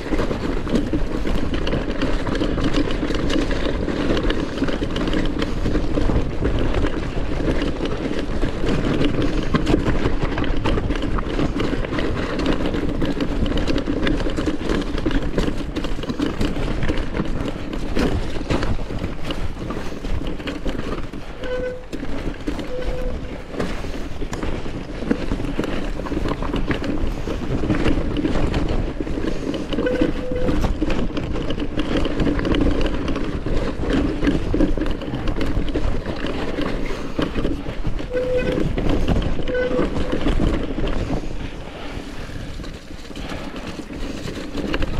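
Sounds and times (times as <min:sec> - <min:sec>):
bike clattering over stones: 0:00.0 - 0:44.9
tyre rumble: 0:00.0 - 0:44.9
wind noise on microphone: 0:00.0 - 0:44.9.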